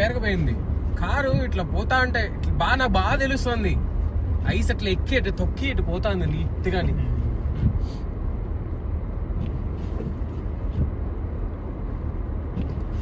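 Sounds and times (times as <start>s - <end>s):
car driving on icy road: 0.0s - 13.0s.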